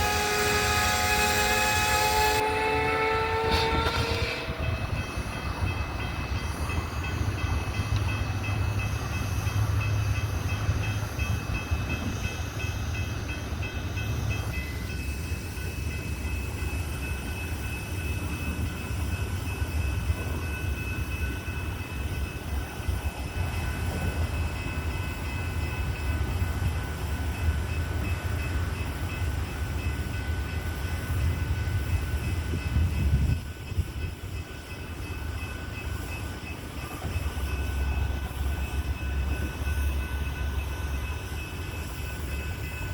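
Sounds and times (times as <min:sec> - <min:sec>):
train rumbling on rails: 0:00.0 - 0:42.9.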